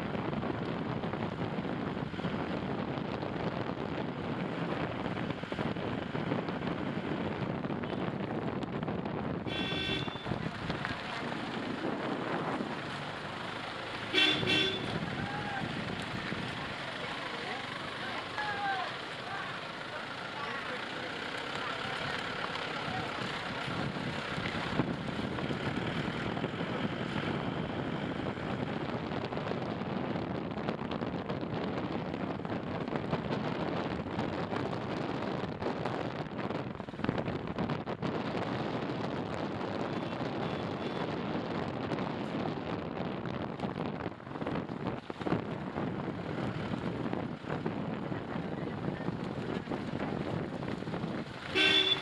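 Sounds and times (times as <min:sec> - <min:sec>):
wind noise on microphone: 0:00.0 - 0:17.8, 0:21.9 - 0:52.0
car road noise: 0:00.0 - 0:52.0.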